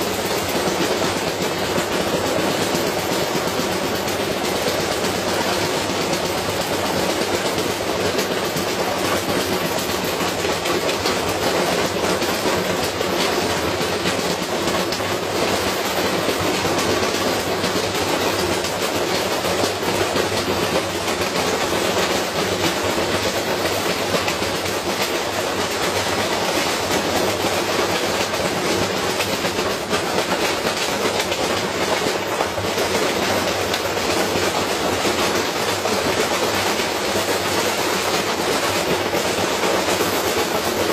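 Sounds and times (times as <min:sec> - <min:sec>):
washing machine rattling and knocking: 0:00.0 - 0:40.9.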